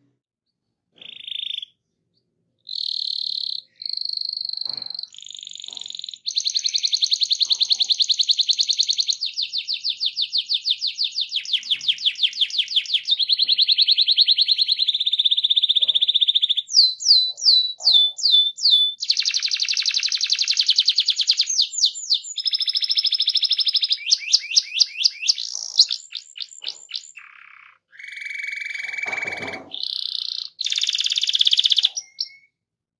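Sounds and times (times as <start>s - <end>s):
canary singing trills: 0.9s - 32.6s.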